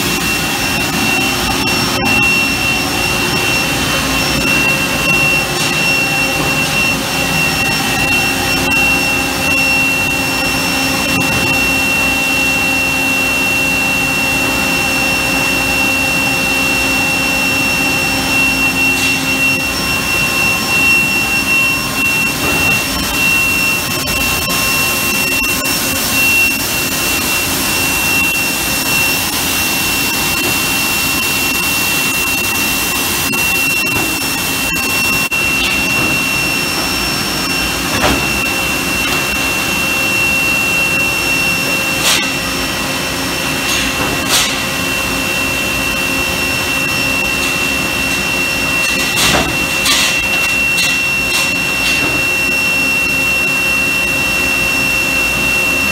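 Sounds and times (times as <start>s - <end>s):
high constant whine: 0.0s - 55.9s
tube mill machine running: 0.0s - 55.9s.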